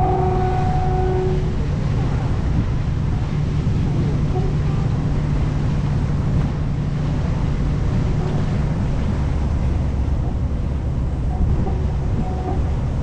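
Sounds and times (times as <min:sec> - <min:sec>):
boat engine humming: 0:00.0 - 0:13.0
water rushing: 0:00.0 - 0:13.0
wind buffeting microphone: 0:00.0 - 0:13.0.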